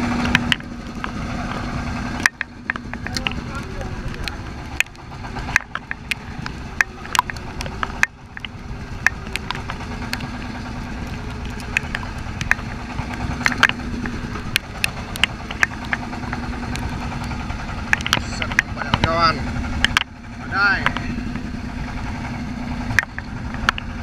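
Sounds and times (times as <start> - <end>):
boat engine running: 0.0 - 24.0
sharp knocks and clicks: 0.0 - 24.0.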